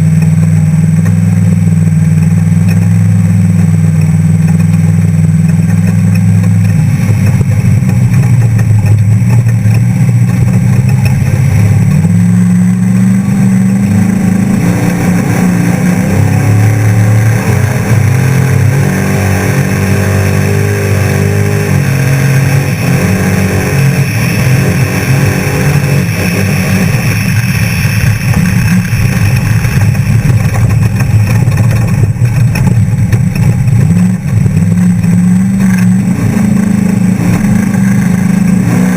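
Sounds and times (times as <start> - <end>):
race engine revving: 0.0 - 38.9.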